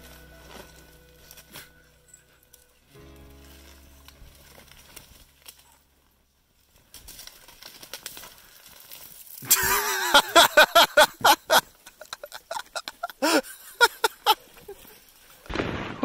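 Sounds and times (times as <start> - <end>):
snowshoes crunching in snow: 0.0 - 13.1.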